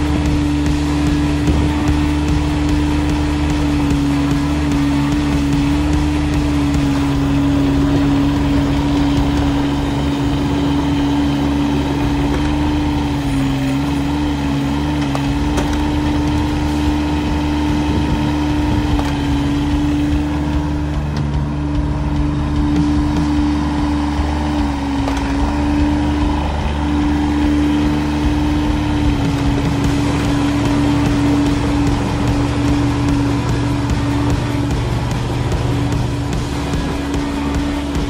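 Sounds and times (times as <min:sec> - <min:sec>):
diesel engine running: 0:00.0 - 0:38.0
machine whine: 0:00.0 - 0:38.0.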